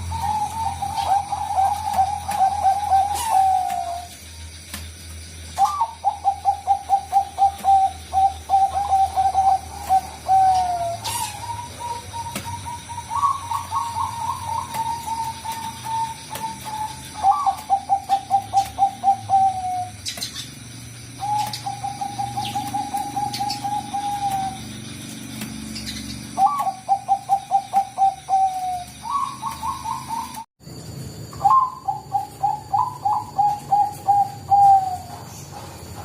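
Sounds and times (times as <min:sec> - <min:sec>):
dove cooing: 0:00.0 - 0:04.3, 0:05.4 - 0:30.5, 0:31.4 - 0:36.0.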